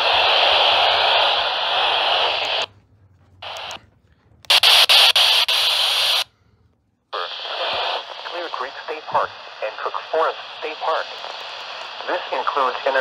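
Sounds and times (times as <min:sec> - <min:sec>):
radio static hiss: 0:00.0 - 0:02.7, 0:03.4 - 0:03.8, 0:04.5 - 0:06.3, 0:07.2 - 0:13.0.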